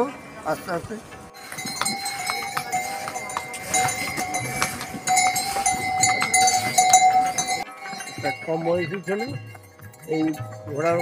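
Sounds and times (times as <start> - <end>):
harness bells ringing: 0.0 - 11.0
hooves clopping on stone: 0.6 - 11.0.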